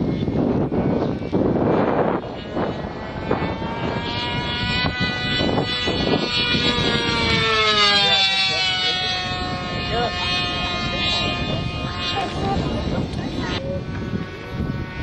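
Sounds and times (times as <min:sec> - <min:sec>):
model jet engine whine: 0:00.0 - 0:15.0.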